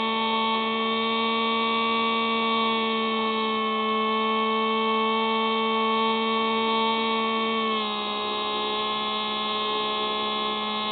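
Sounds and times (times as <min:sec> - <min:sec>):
model plane motor whining: 0:00.0 - 0:10.9.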